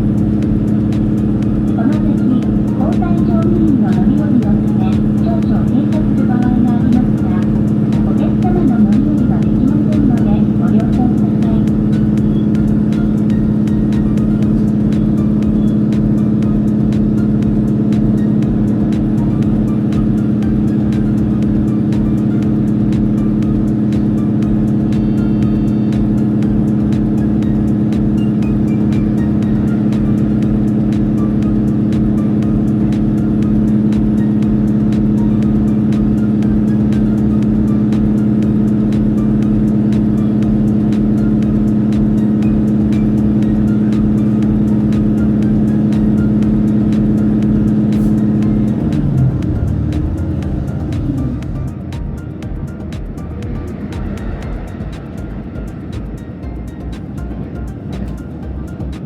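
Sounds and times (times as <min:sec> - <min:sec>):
railcar engine drone: 0:00.0 - 0:59.0.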